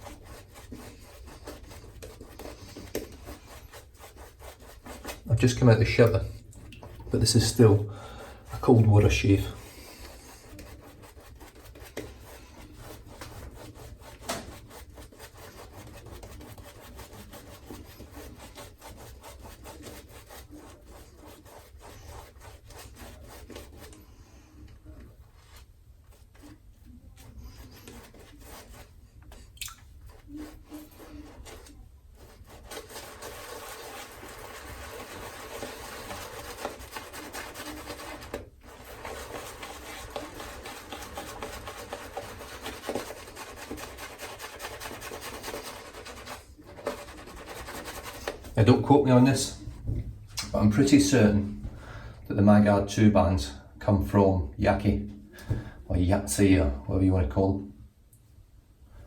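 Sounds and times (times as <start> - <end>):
shaving brush rubbing lather: 0.0 - 6.5, 7.1 - 49.8, 50.4 - 51.6.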